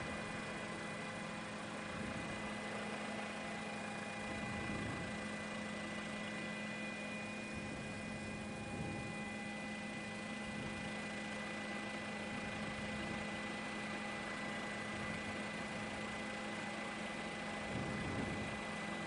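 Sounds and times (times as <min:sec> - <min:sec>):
helicopter engine drone: 0:00.0 - 0:19.0.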